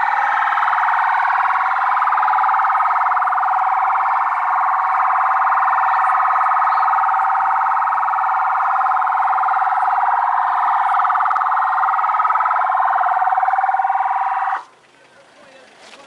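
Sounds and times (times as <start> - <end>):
police siren wailing: 0.0 - 14.6.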